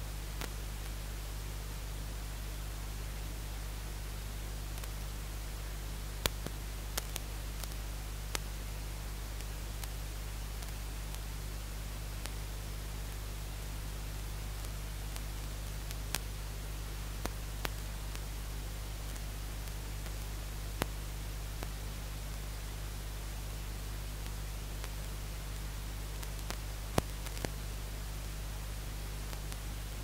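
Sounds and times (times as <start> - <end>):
electrical hum: 0.0 - 30.0
static hiss: 0.0 - 30.0.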